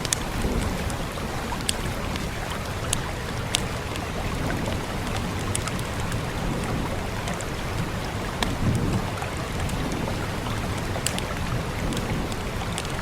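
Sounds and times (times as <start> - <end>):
log fire crackling and popping: 0.0 - 13.0
rain: 0.0 - 13.0.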